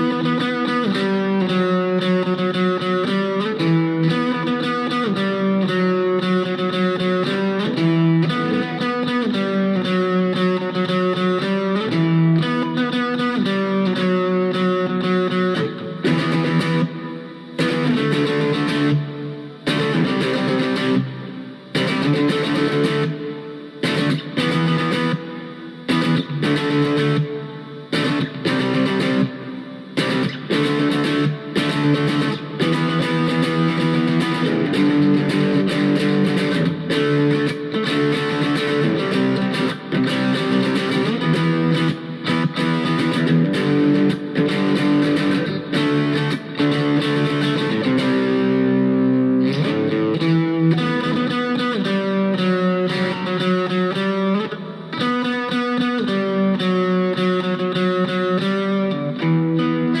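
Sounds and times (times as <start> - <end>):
distorted electric guitar: 0.0 - 60.0.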